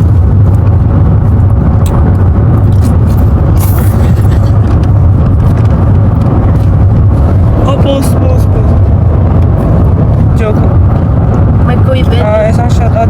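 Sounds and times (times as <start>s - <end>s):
car interior road rumble: 0.0s - 13.0s.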